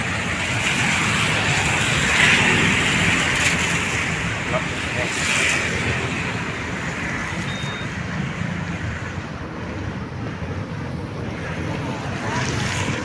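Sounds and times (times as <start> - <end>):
road vehicle rumble and hiss: 0.0 - 13.0.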